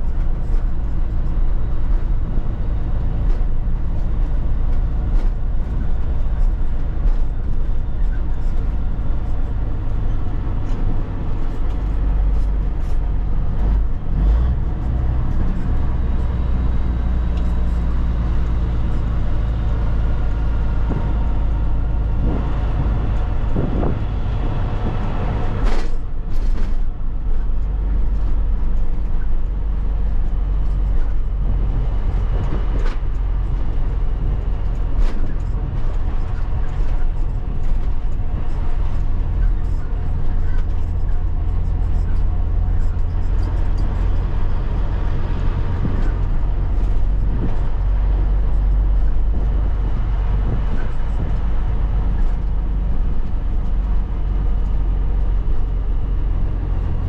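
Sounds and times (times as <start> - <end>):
diesel engine drone: 0.0 - 57.0
road and wind noise: 0.0 - 57.0.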